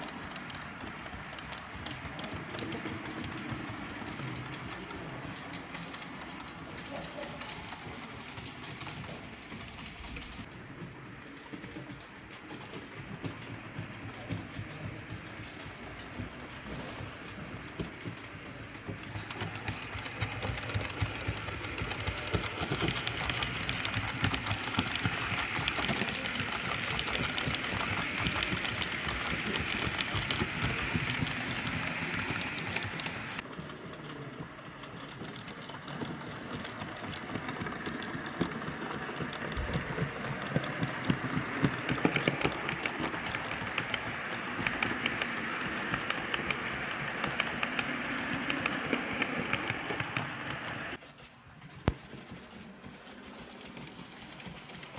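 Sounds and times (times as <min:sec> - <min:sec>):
model train running: 0:00.0 - 0:54.9
wheels clicking on track: 0:00.0 - 0:54.9.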